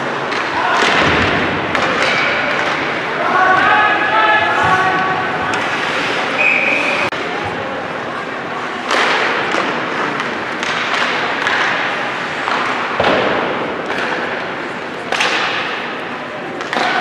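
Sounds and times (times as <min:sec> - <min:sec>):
noisy din: 0:00.0 - 0:17.0.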